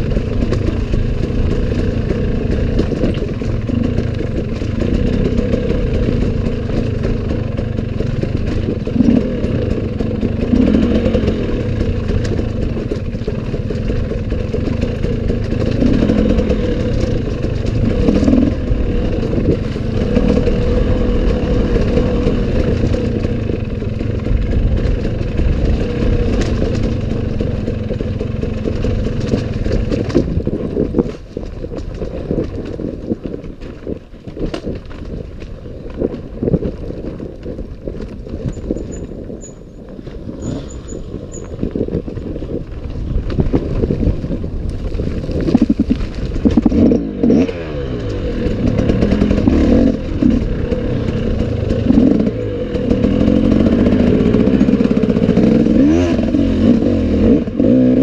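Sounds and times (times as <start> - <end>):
dirt bike engine revving: 0.0 - 31.2, 38.5 - 41.9, 43.4 - 58.0.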